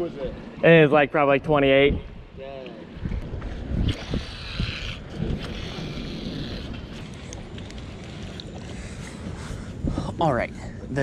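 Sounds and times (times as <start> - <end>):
wind rumbling on microphone: 1.4 - 11.0.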